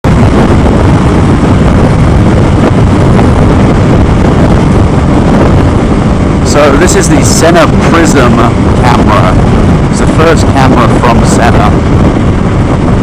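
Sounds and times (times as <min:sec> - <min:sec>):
motorcycle wind rush: 0:00.0 - 0:13.0.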